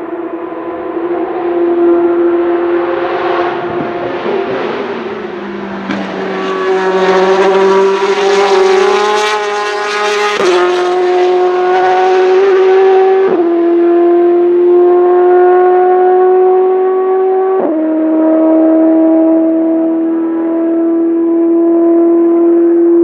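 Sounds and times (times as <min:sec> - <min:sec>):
racing car engine at high revs: 0:00.0 - 0:23.0.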